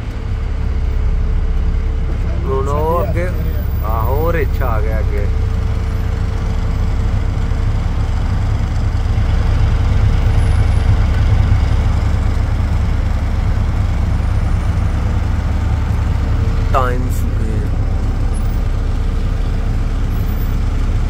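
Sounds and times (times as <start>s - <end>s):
road noise inside cabin: 0.0s - 21.0s
vehicle engine rumble: 0.0s - 21.0s.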